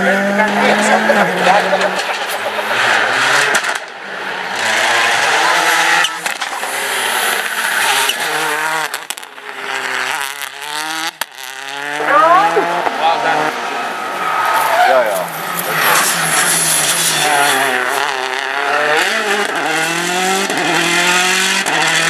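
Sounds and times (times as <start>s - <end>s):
rally car engine revving hard: 0.0s - 22.0s.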